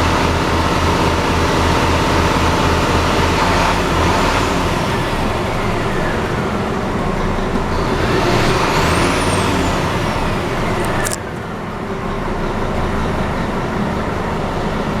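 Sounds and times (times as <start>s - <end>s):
diesel truck rumble: 0.0s - 15.0s.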